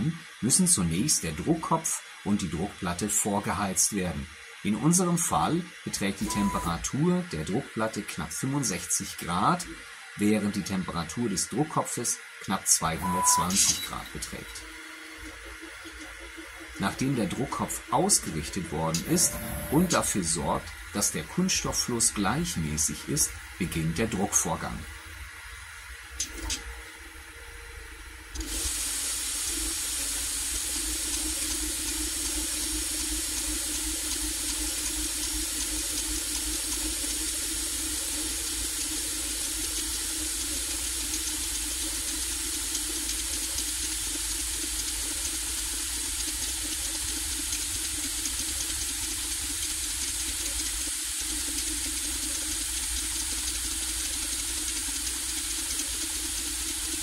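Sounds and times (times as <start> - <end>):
printer fans whirring: 0.0 - 57.0.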